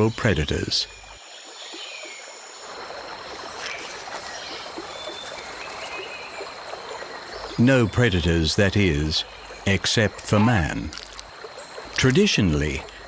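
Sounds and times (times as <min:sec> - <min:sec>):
moving water: 0:00.0 - 0:13.0.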